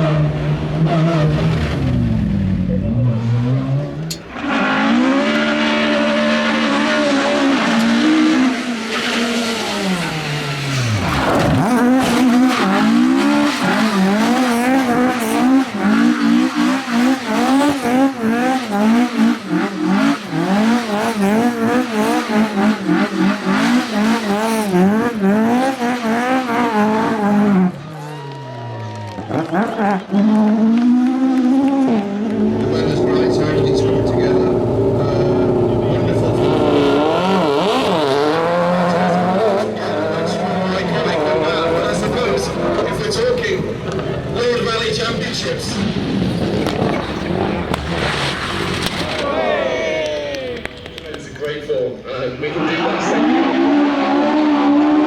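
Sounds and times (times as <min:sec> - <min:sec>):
rally car engine revving: 0:00.0 - 0:28.4, 0:29.0 - 0:55.0.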